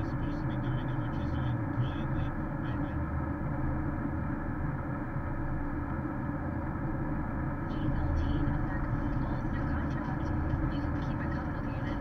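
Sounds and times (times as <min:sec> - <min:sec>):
in-cabin road noise: 0:00.0 - 0:12.0.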